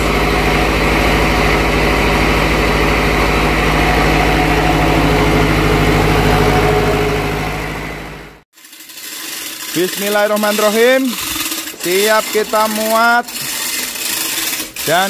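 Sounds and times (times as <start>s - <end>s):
diesel generator running: 0.0s - 8.4s, 9.2s - 15.0s.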